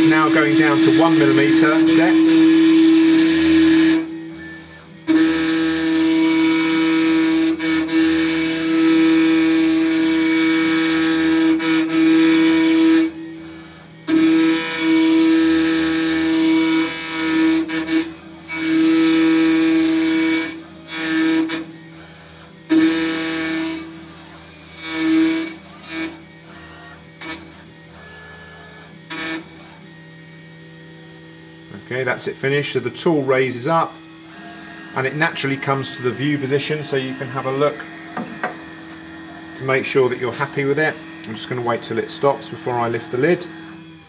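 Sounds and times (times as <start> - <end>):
cutter hissing through acrylic: 0.0 - 44.0
router spindle whining: 0.0 - 44.0.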